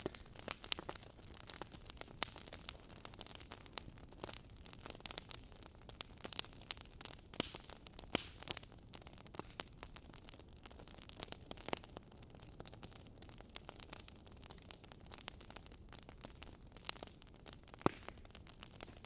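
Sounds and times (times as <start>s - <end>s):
logs crackling and popping: 0.0s - 19.0s
soft fire hiss: 0.0s - 19.0s.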